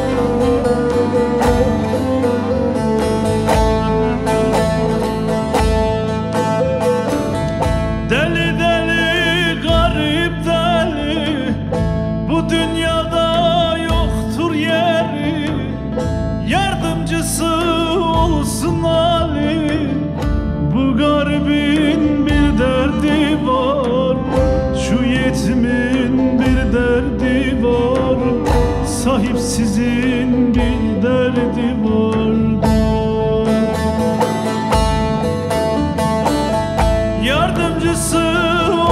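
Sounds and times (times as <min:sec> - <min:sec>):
man singing: 0:00.0 - 0:05.3, 0:08.0 - 0:34.8, 0:37.0 - 0:38.9
hand drum beats: 0:00.0 - 0:38.9
keyboard: 0:00.0 - 0:38.9
strummed and plucked lute: 0:00.0 - 0:38.9.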